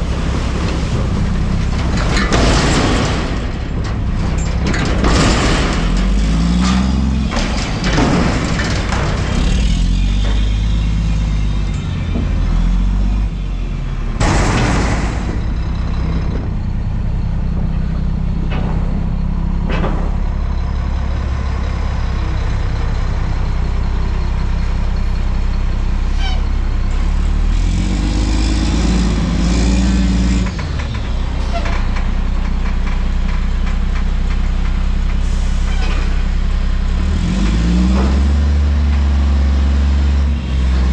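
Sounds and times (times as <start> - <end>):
garbage truck engine revving: 0.0 - 40.9.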